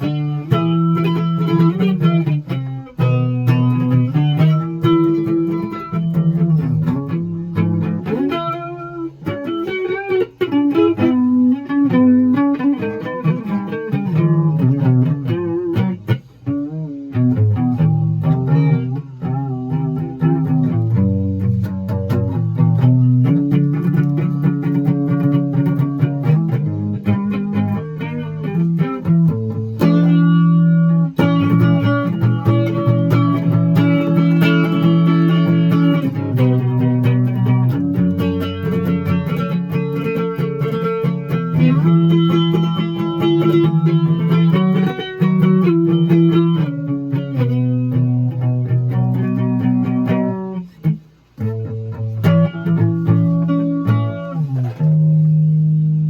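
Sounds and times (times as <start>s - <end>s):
plucked string music: 0.0s - 56.0s.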